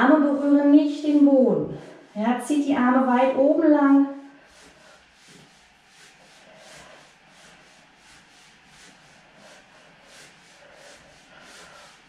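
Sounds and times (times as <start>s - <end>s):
clothing swishing on exercise mat: 0.0s - 12.0s.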